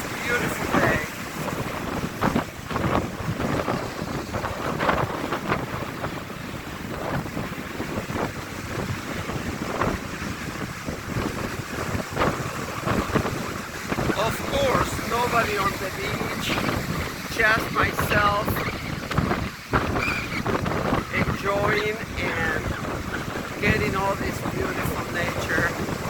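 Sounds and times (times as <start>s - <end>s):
ocean surf breaking: 0.0s - 26.0s
strong wind buffeting microphone: 0.0s - 26.0s.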